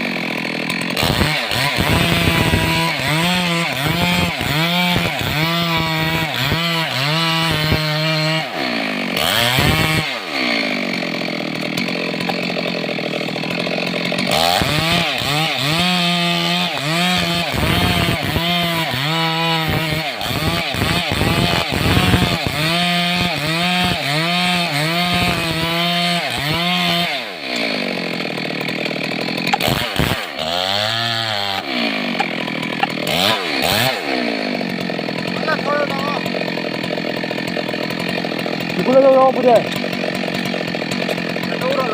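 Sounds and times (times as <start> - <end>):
chainsaw cutting through log: 0.0 - 41.9.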